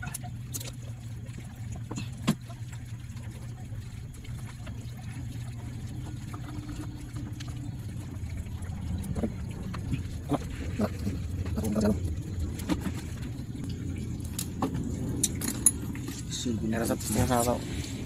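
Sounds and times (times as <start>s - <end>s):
van engine idling: 0.0s - 18.0s.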